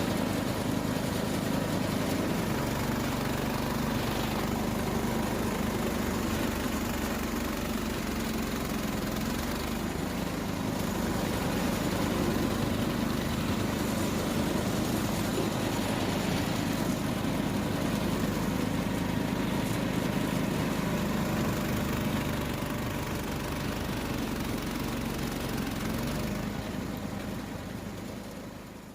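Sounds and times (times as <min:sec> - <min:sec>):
garden tractor engine running: 0:00.0 - 0:28.9.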